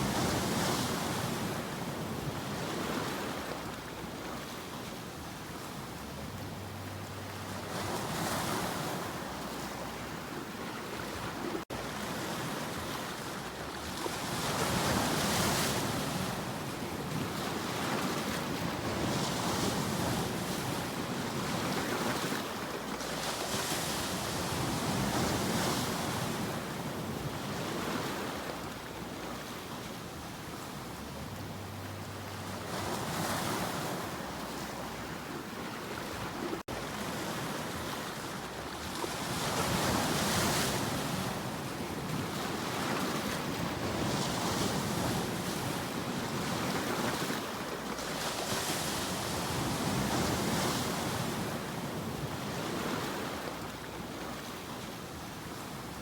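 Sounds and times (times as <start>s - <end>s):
sea waves breaking: 5.1s - 56.0s.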